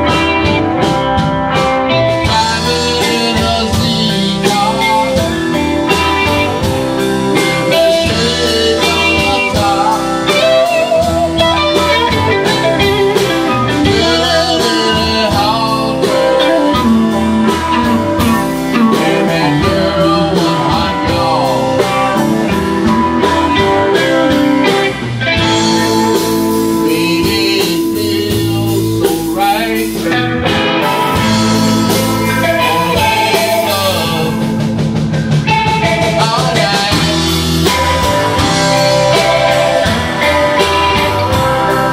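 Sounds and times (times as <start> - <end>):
drum kit: 0.0 - 41.9
electric bass: 0.0 - 41.9
electric guitars: 0.0 - 41.9.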